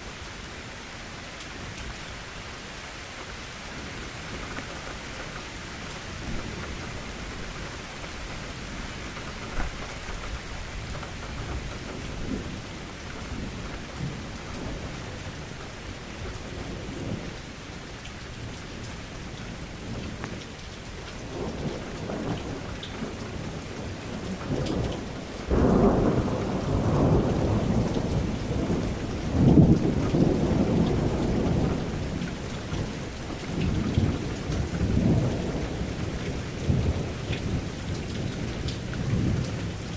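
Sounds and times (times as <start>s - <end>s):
steady rain falling: 0.0s - 39.9s
thunder rumbling: 3.7s - 17.5s, 21.2s - 39.9s.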